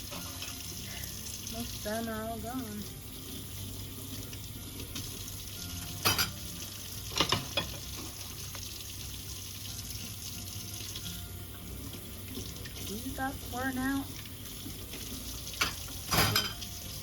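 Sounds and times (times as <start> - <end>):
running water hissing: 0.0 - 17.0.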